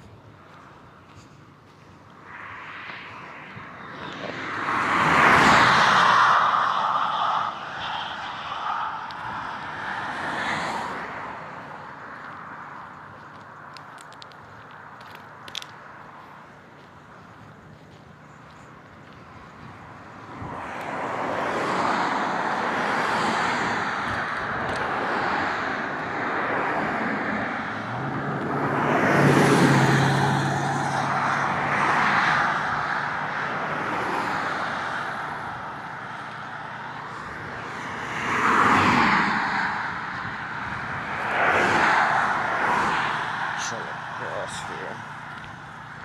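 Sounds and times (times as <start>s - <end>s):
vehicles passing close by: 0.0s - 46.0s.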